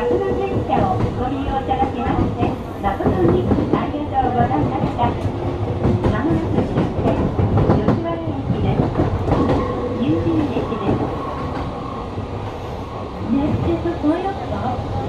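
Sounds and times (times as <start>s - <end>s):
train rolling rumble: 0.0s - 15.0s.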